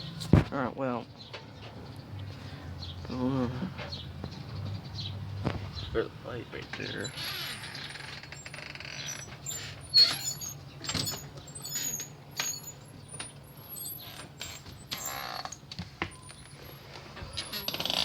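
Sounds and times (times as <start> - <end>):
small birds chirping: 0.8 - 18.0.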